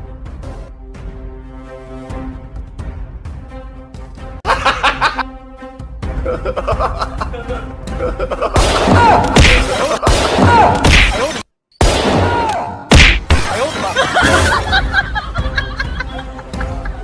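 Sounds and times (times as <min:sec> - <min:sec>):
music: 0:00.0 - 0:11.4, 0:13.4 - 0:17.0.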